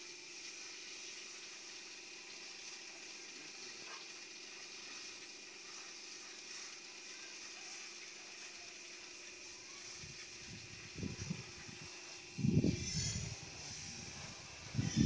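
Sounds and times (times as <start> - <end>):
pressure washer spraying: 0.0 - 15.0
steady hum: 0.0 - 15.0.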